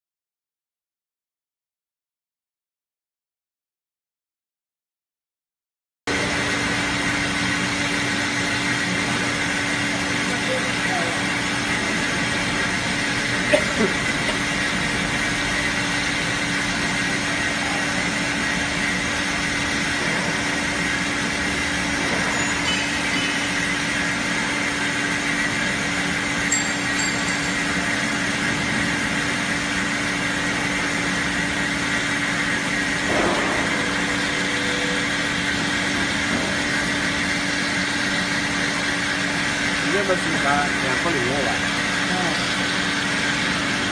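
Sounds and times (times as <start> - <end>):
metal band saw cutting: 6.1 - 43.9.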